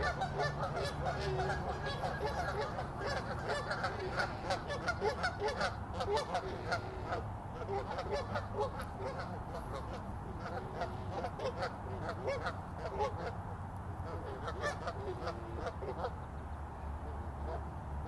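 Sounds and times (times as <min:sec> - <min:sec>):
geese honking: 0:00.0 - 0:13.4, 0:14.0 - 0:16.2, 0:17.0 - 0:17.7.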